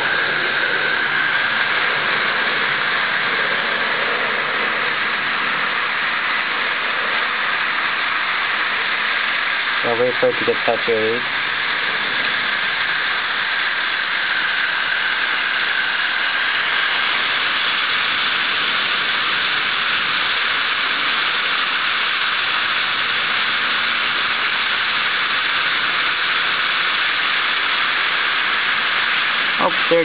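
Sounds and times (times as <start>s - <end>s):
garden hose running water: 0.0s - 30.0s.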